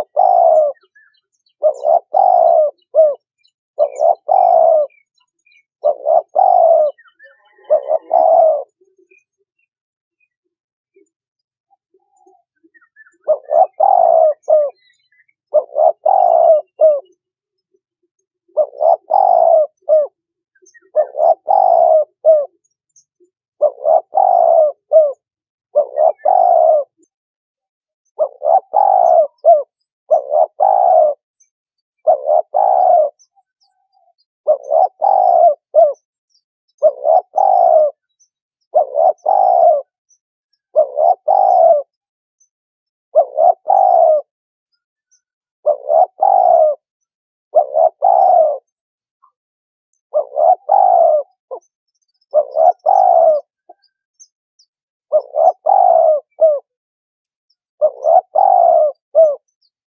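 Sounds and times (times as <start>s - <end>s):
turtle dove cooing: 0.0s - 40.0s, 40.6s - 42.1s, 43.1s - 49.4s, 50.0s - 59.9s.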